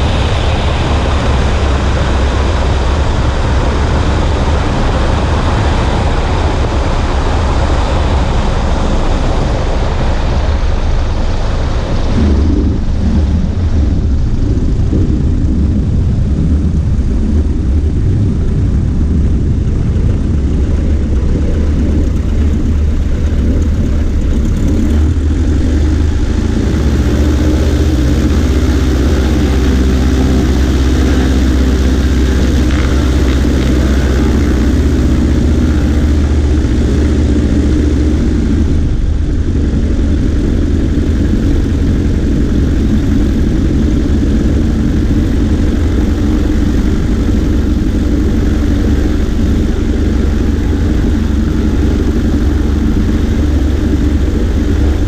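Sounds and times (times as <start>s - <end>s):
propeller aircraft engine drone: 0.0s - 55.0s
wind rush: 0.0s - 55.0s.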